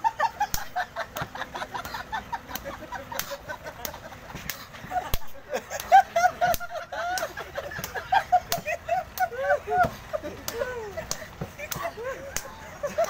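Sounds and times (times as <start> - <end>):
onlookers laughing: 0.0 - 13.0.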